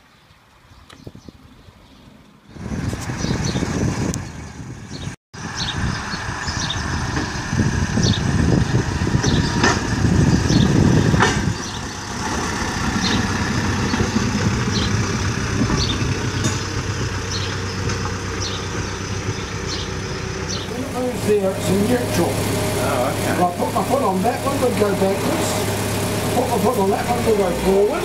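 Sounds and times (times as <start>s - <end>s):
railcar engine rumbling: 2.5s - 28.0s.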